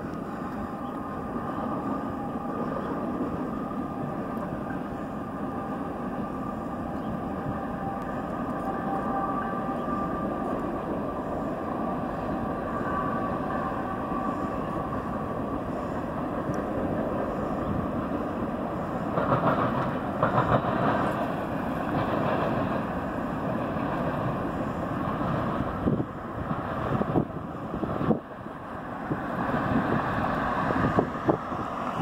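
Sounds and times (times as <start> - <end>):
distant train rumble: 0.0 - 32.0.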